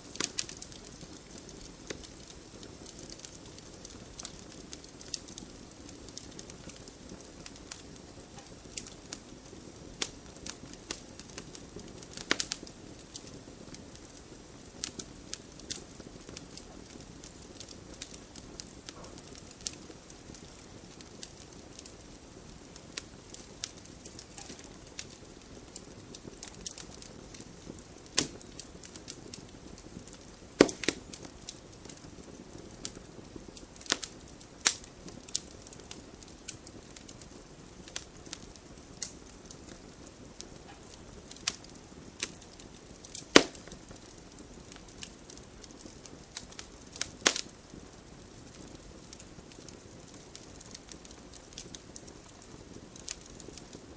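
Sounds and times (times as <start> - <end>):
burning logs crackling and popping: 0.0 - 53.9
wood fire hissing: 0.0 - 53.9.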